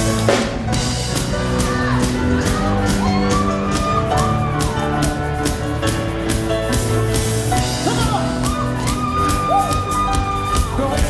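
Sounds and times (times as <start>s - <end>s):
drum beat: 0.0s - 11.0s
gliding lead notes: 0.0s - 11.0s
live rock band playing: 0.0s - 11.0s.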